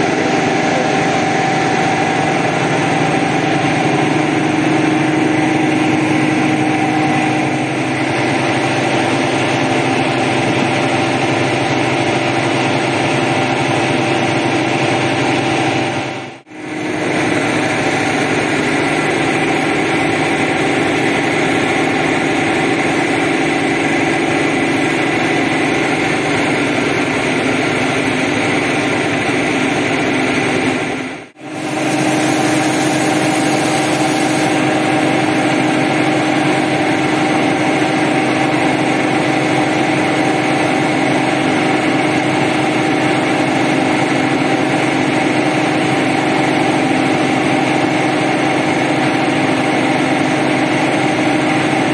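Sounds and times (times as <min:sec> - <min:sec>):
pressure washer motor humming: 0:00.0 - 0:51.9.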